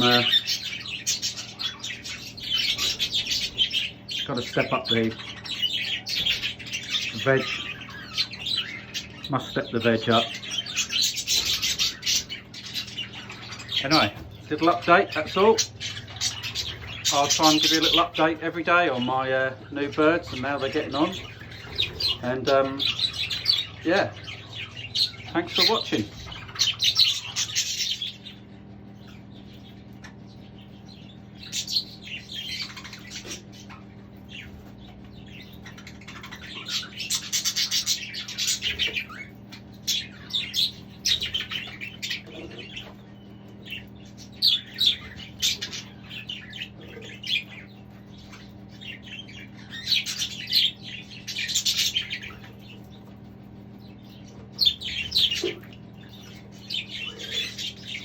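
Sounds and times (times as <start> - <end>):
budgerigars chirping and chattering: 0.0 - 58.0
steady low hum: 0.0 - 58.0.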